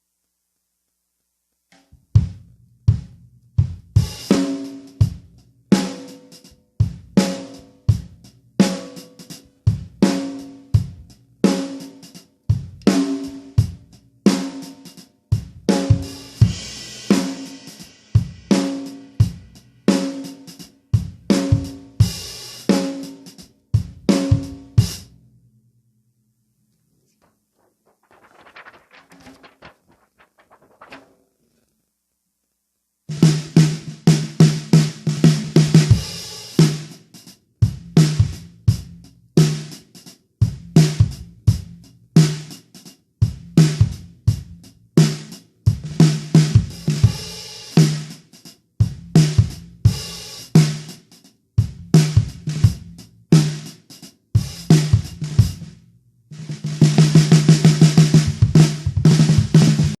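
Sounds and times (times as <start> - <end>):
drum kit groove: 2.0 - 25.1, 27.6 - 31.1, 33.1 - 55.8, 56.4 - 60.0.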